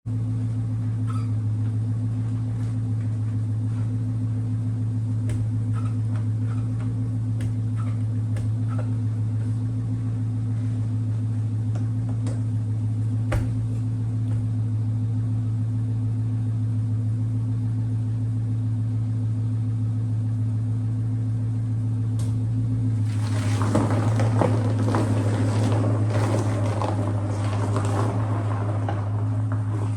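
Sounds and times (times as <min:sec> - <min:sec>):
low machine hum: 0:00.1 - 0:29.9.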